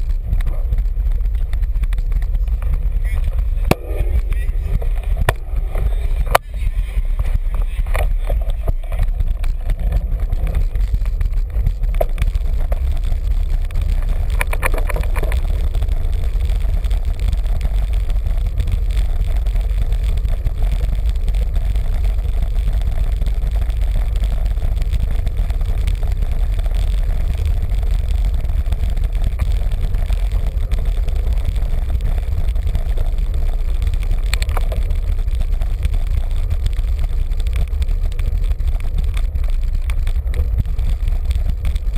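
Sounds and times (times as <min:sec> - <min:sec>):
bicycle tyre and road noise: 0:00.0 - 0:41.9.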